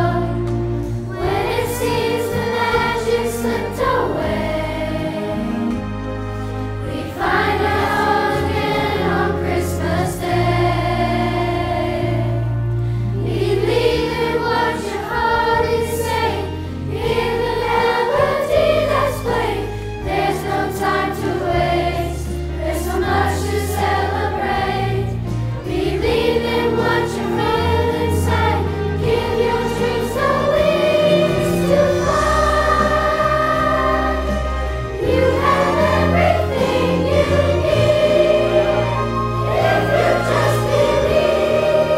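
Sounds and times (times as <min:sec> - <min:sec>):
chorus singing: 0:00.0 - 0:41.9
sustained low accompaniment: 0:00.0 - 0:41.9.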